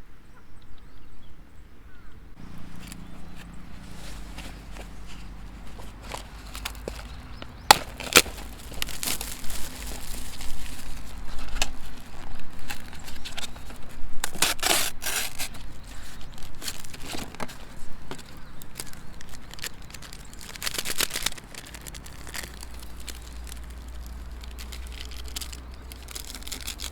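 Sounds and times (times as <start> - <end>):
material rustling and crinkling: 2.4 - 26.9.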